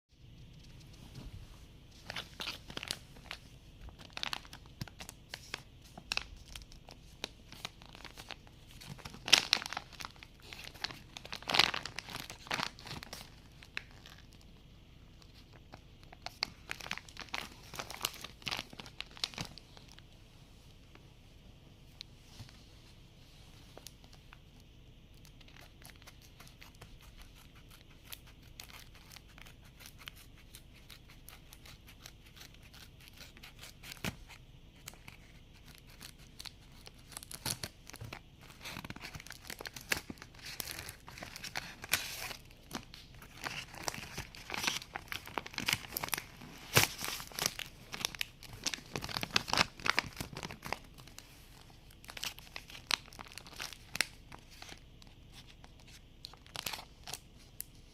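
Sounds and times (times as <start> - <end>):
packaging crinkling and tearing: 2.0 - 14.4, 15.3 - 20.0, 25.1 - 57.8.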